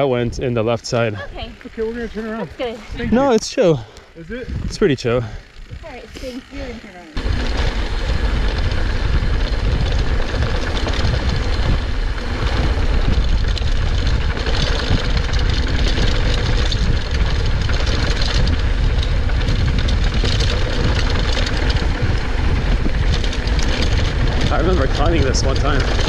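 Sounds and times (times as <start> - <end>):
bike rattling: 0.0 - 26.0
tyres rolling on dirt trail: 0.0 - 26.0
wind buffeting microphone: 0.0 - 26.0.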